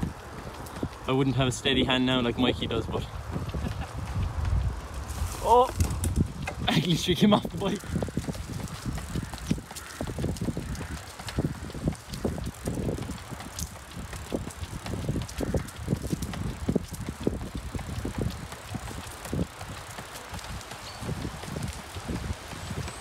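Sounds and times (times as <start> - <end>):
bike rolling on tarmac: 0.0 - 23.0.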